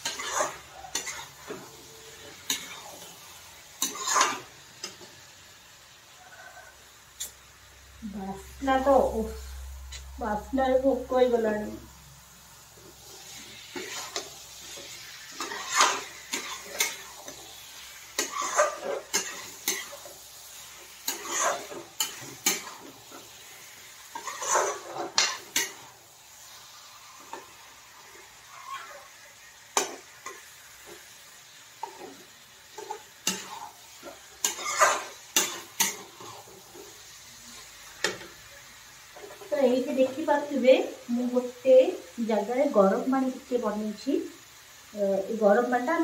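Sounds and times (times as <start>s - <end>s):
gravy sizzling: 0.0s - 46.0s.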